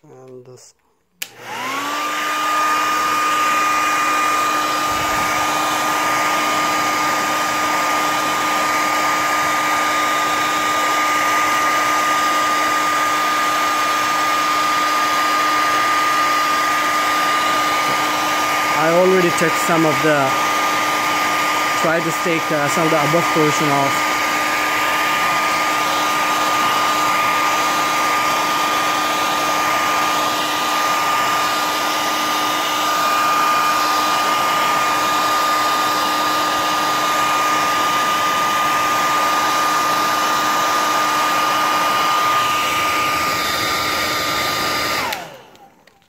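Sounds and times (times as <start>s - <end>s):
hair dryer blowing: 1.1s - 46.0s.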